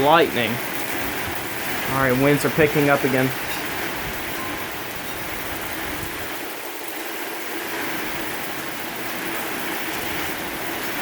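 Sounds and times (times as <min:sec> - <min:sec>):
heavy rain hissing: 0:00.0 - 0:11.0
strong gusting wind: 0:00.0 - 0:11.0.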